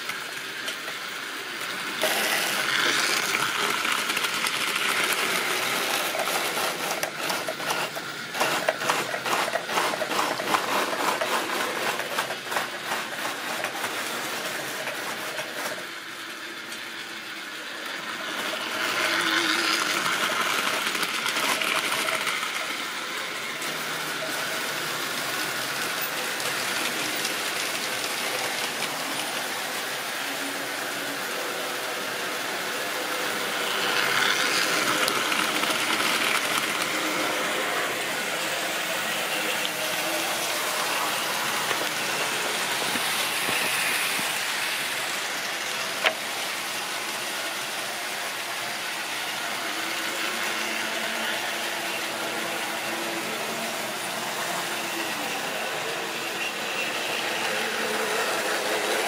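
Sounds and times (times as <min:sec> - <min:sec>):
small electric motor whirring: 0:00.0 - 0:31.5, 0:33.0 - 0:59.0.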